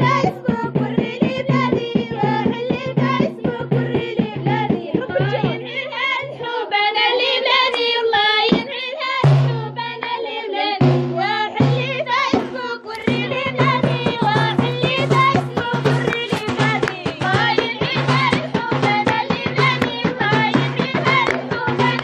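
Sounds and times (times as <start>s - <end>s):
drum beats: 0.0s - 22.0s
wavering vocal melody: 0.0s - 22.0s.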